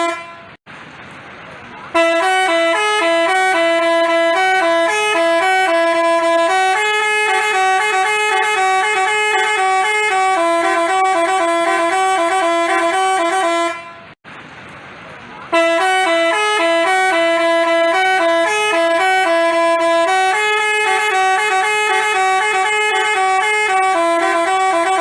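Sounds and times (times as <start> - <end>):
bus horn playing a tune: 0.0 - 0.6, 1.9 - 14.2, 15.5 - 25.0.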